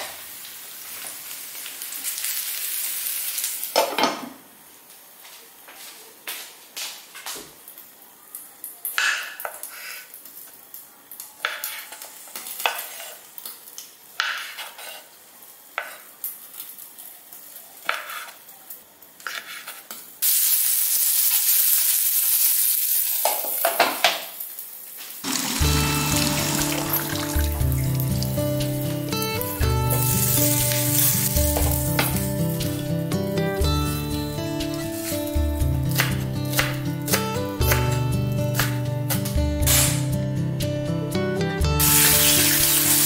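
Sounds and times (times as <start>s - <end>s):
eggplant sizzling in frying pan: 0.0s - 5.2s, 7.1s - 40.2s, 41.6s - 43.0s.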